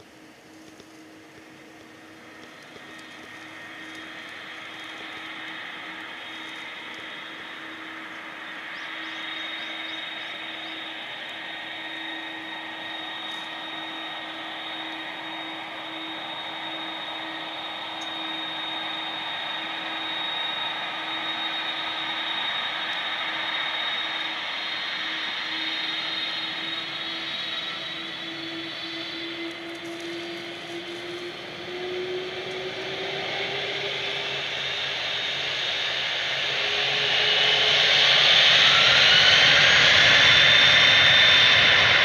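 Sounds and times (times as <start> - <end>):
jet engines whining: 0.0 - 42.0.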